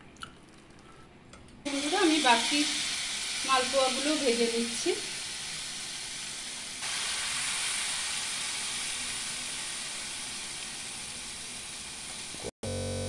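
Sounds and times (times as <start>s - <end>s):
batter sizzling in oil: 1.7s - 12.5s.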